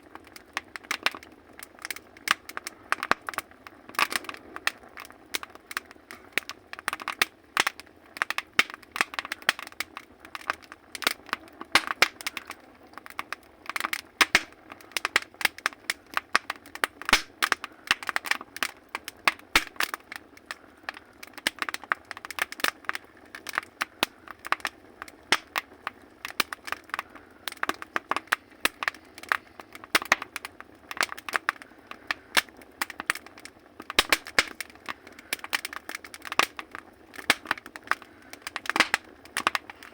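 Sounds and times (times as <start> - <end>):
faint steady hiss: 0.0 - 39.9
firewood crackling and popping: 0.0 - 39.9.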